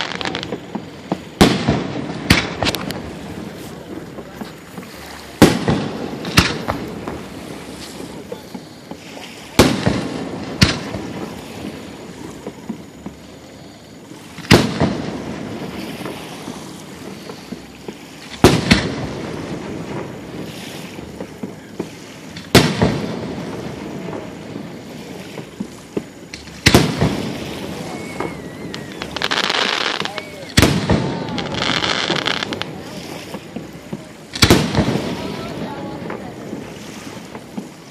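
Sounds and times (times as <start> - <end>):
fireworks bursting with bangs: 0.0 - 37.9.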